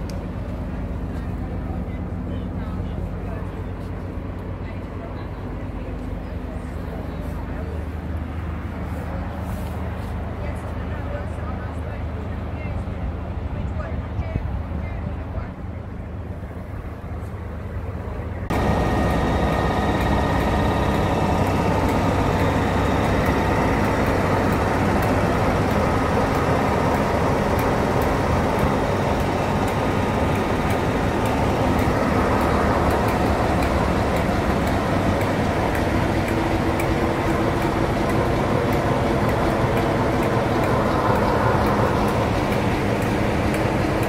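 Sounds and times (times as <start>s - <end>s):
moving train running noise: 0.0s - 44.0s.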